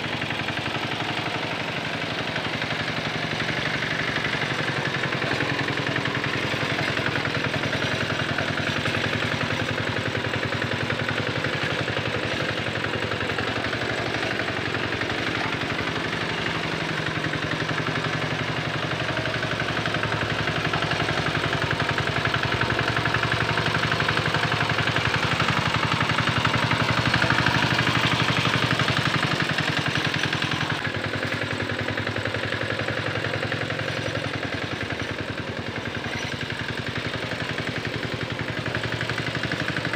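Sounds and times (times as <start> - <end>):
small tractor engine chugging: 0.0 - 39.9.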